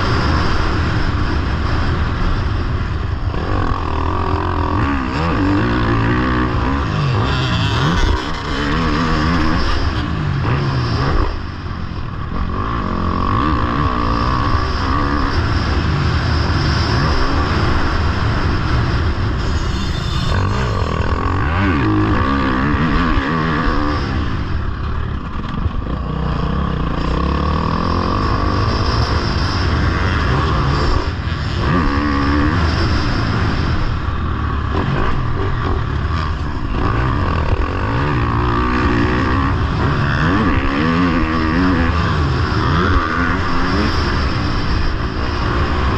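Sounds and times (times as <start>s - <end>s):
motocross bike engine revving: 0.0s - 45.9s
steady rush of noise: 0.0s - 45.9s.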